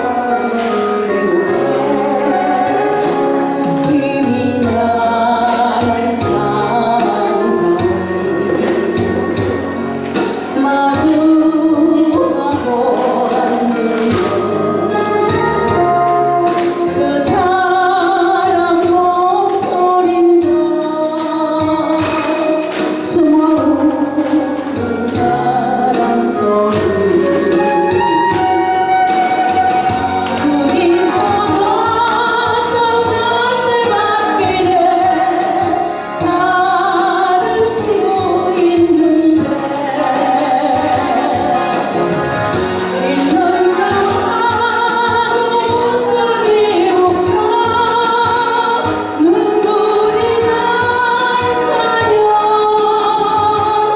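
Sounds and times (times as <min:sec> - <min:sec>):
instrumental accompaniment with beat: 0:00.0 - 0:53.9
woman singing: 0:00.0 - 0:53.9.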